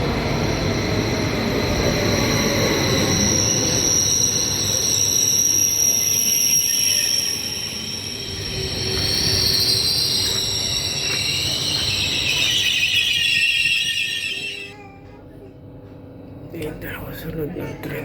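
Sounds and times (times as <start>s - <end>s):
train wheels and brakes squealing: 0.0s - 15.2s
train cars rumbling: 0.0s - 16.4s.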